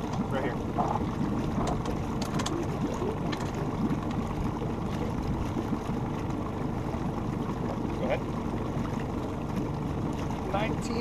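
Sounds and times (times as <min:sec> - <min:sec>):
water lapping at boat hull: 0:00.0 - 0:11.0.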